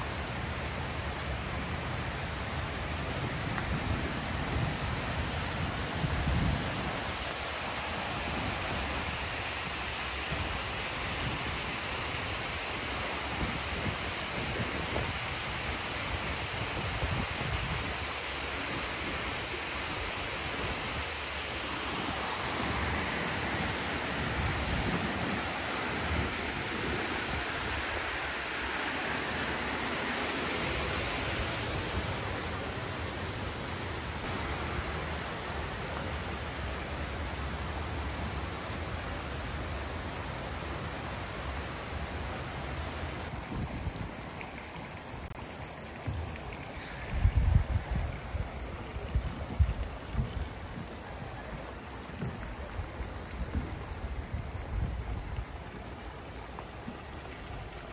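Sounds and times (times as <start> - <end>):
river rushing: 0.0 - 57.9.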